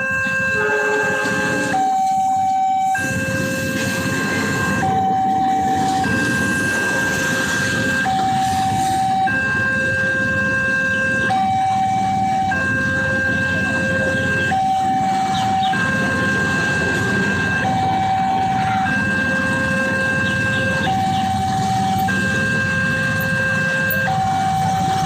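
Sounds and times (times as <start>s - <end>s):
level crossing two-tone alarm: 0.0s - 25.0s
rail traffic rumble: 0.0s - 25.0s.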